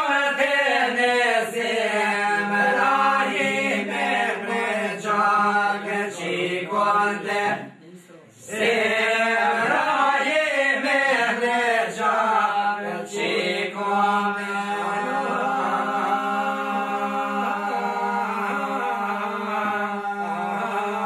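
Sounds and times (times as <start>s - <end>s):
men singing polyphonic folk song: 0.0s - 7.6s, 8.4s - 21.0s.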